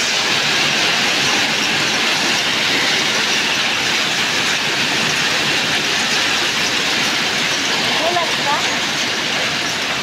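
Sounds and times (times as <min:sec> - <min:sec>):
hail pelting hard surfaces: 0:00.0 - 0:10.0.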